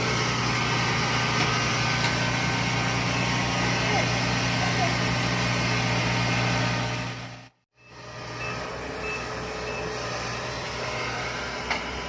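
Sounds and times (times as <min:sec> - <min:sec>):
heavy machine engine idling: 0:00.0 - 0:12.0.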